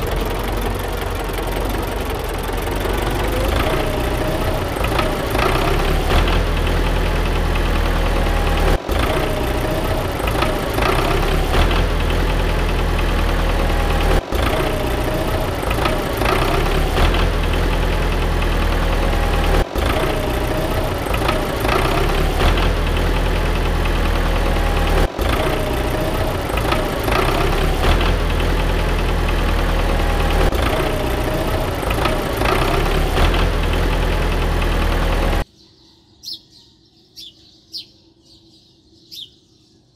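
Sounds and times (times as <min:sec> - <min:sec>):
tractor engine idling: 0:00.0 - 0:35.5.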